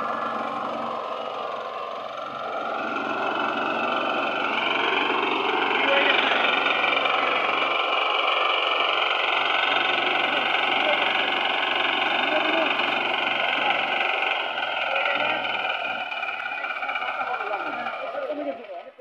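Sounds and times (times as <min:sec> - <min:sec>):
small engine running: 0:00.0 - 0:19.0
people's voices: 0:02.6 - 0:19.0.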